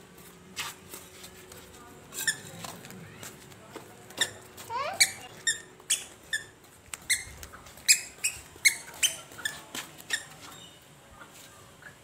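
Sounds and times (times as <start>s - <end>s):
squeaky sandals squeaking: 2.1s - 12.0s.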